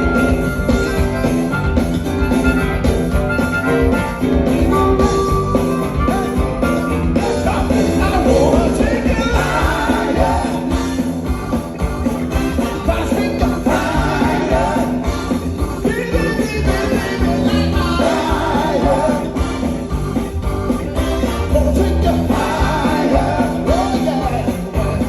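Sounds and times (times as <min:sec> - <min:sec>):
funk band playing: 0:00.0 - 0:25.0.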